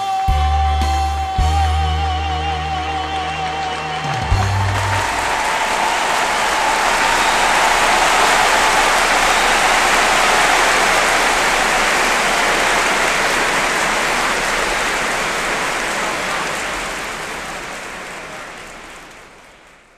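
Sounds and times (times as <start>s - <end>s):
audience applauding: 1.6s - 19.9s.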